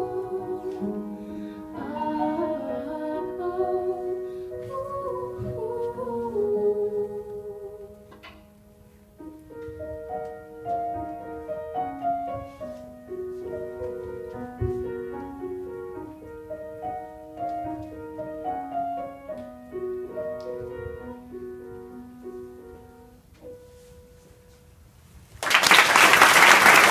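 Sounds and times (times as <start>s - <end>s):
piano melody over chords: 0.0s - 24.7s.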